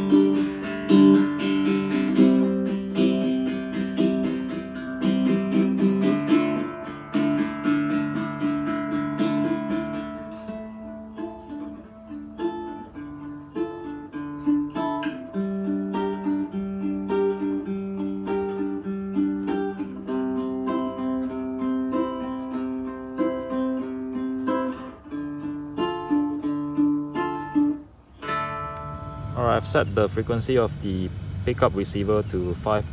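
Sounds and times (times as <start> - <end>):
plucked string instrument music: 0.0 - 32.9.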